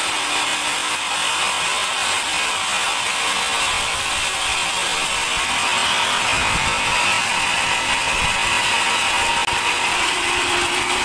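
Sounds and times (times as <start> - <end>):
band saw cutting wood: 0.0 - 11.0.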